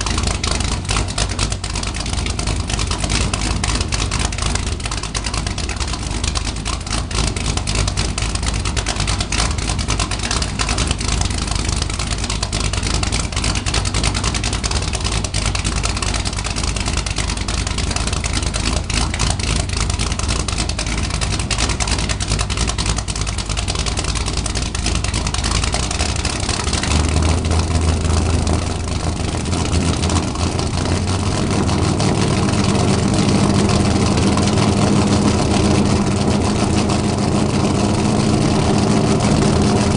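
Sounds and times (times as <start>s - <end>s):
loud rough car exhaust: 0.0s - 39.9s.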